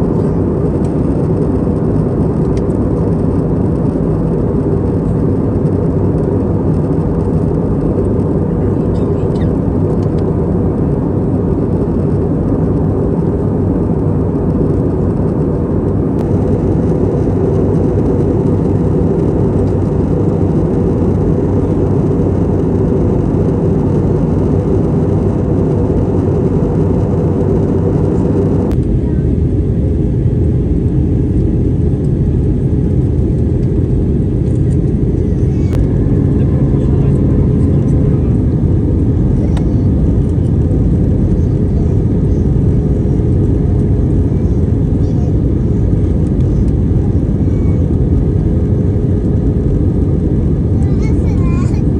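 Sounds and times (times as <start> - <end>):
airliner cabin engine hum: 0.0 - 51.9.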